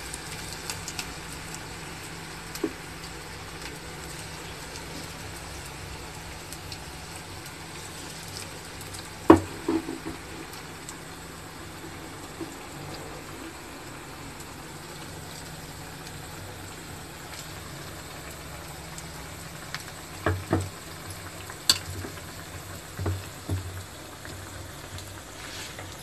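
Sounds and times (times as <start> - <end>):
batter deep-frying in hot oil: 0.0 - 26.0.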